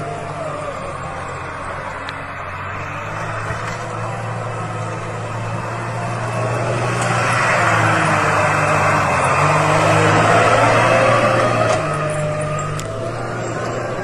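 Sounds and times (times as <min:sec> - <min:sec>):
snow-clearing machine engine: 0:00.0 - 0:14.0.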